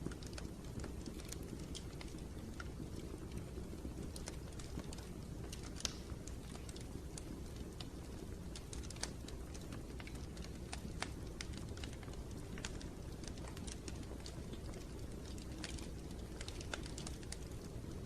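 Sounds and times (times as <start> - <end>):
low rumble of fire: 0.0 - 18.0
wood fire crackles and pops: 0.0 - 18.0.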